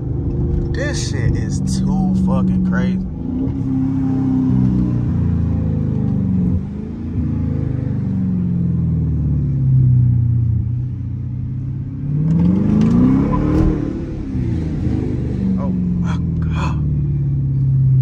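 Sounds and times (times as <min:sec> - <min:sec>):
loud car engine revving: 0:00.5 - 0:09.6, 0:11.6 - 0:17.6.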